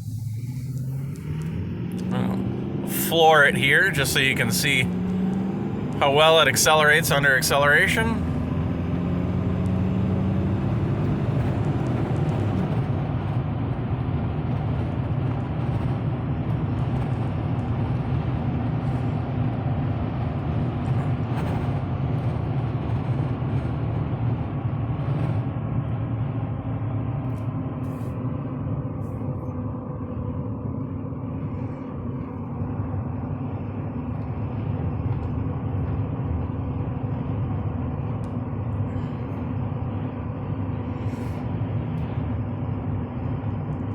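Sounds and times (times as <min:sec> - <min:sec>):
diesel truck engine at full throttle: 0:00.0 - 0:43.9
road noise: 0:00.0 - 0:43.9.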